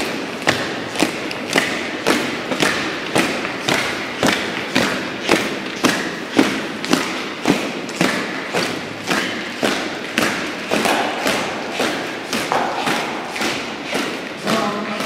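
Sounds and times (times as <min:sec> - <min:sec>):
boots marching on stone floor: 0:00.0 - 0:15.0.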